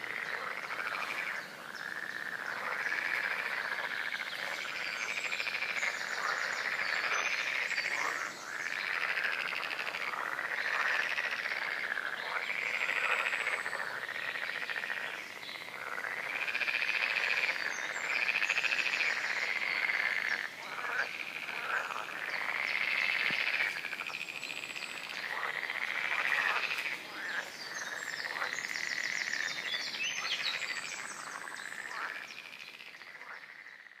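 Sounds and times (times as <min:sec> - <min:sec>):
frogs croaking: 0:00.0 - 0:34.0.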